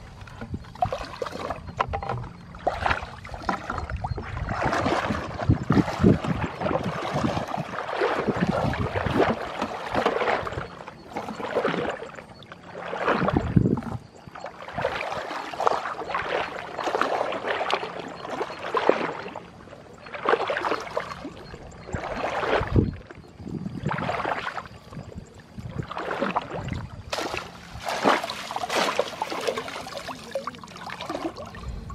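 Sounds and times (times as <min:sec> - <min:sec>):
legs wading through muddy water: 0:00.0 - 0:31.9.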